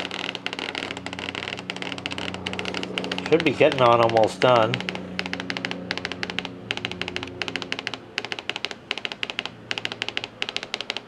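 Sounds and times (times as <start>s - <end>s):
fax machine ticking: 0.0s - 11.0s.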